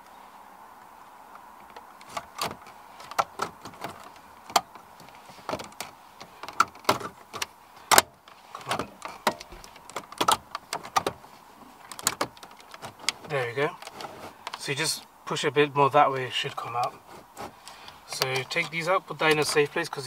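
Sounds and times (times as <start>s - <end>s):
metal pins clicking in radio slots: 1.7s - 15.1s, 16.1s - 20.0s.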